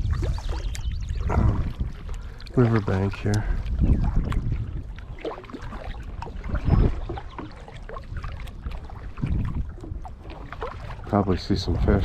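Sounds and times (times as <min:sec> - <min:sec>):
kayak paddle splashing water: 0:00.0 - 0:12.0
small water drips: 0:00.0 - 0:12.0.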